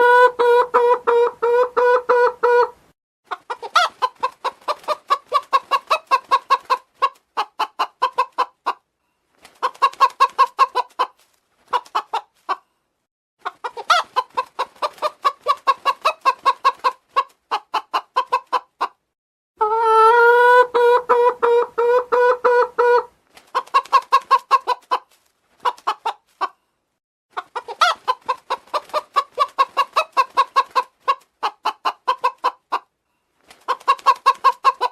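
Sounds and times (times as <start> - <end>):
chicken clucking: 0.0 - 8.9, 9.5 - 12.8, 13.4 - 26.7, 27.3 - 34.9.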